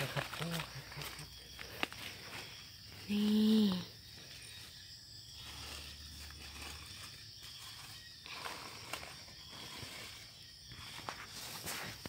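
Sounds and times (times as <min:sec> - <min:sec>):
rustles in dry leaves: 0:00.0 - 0:12.0.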